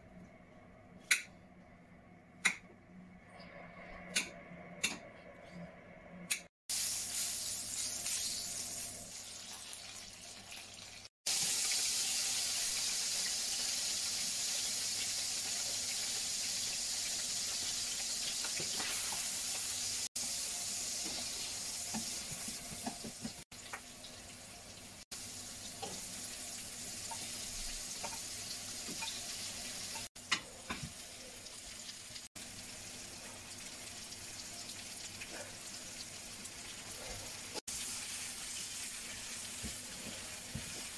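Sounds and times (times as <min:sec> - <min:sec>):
vegetables sizzling in oil: 0:06.7 - 0:40.9.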